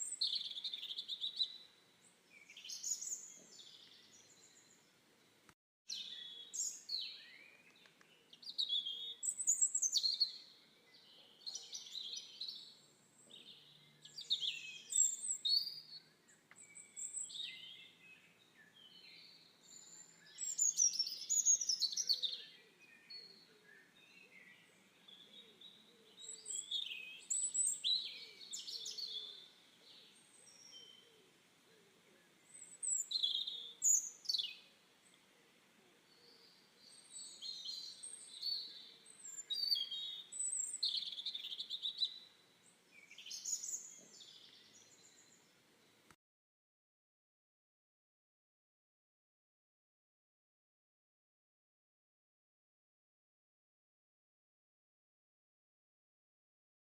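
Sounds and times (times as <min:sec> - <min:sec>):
songbirds chirping and trilling: 0:00.0 - 0:46.2.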